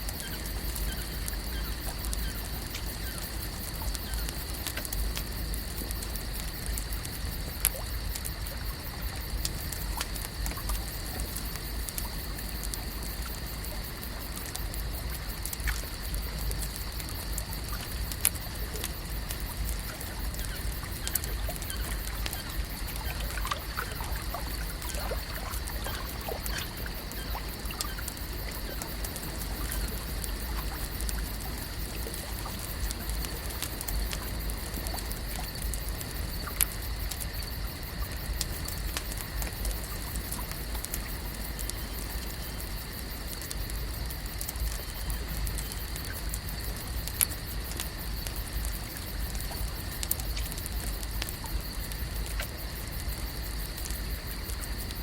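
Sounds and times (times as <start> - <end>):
water trickling and lapping: 0.0 - 55.0.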